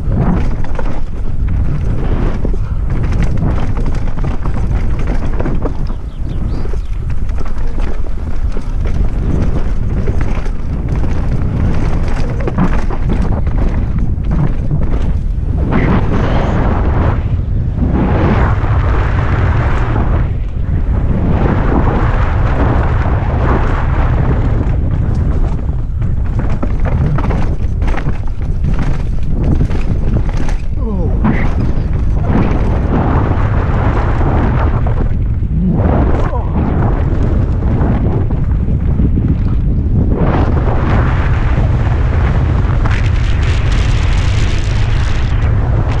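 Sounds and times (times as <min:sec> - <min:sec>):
bike rattling over rocks: 0:00.0 - 0:17.0, 0:20.6 - 0:46.0
tyres on dirt: 0:00.0 - 0:17.1, 0:24.1 - 0:46.0
wind buffeting microphone: 0:00.0 - 0:46.0.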